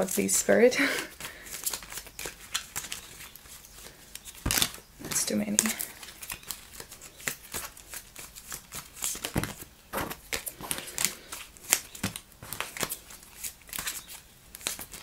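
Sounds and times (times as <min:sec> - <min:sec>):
cards being shuffled: 0:01.0 - 0:15.0.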